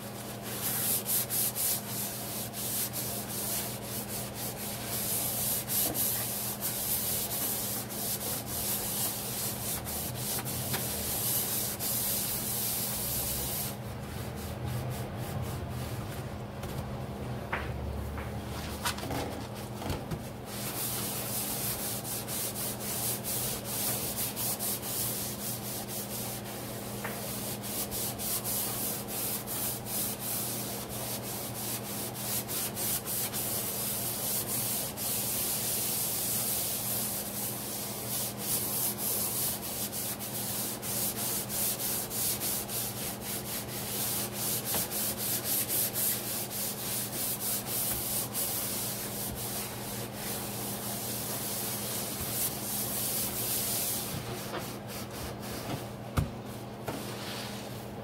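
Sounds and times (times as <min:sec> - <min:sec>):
sponge scrubbing a steel sink: 0:00.0 - 0:16.4, 0:20.2 - 0:55.9.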